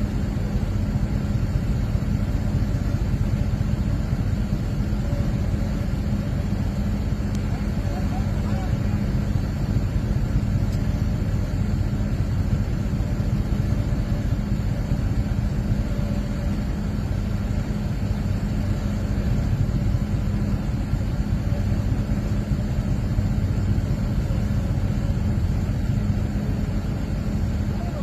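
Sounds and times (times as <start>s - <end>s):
vehicle engine running steadily: 0.0s - 28.0s.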